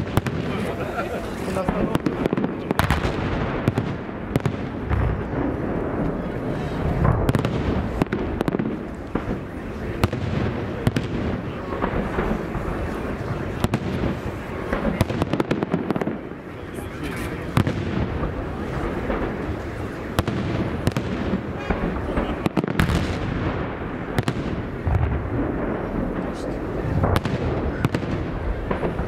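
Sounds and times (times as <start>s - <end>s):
continuous rumble: 0.0s - 29.0s
fireworks bursting: 0.0s - 29.0s.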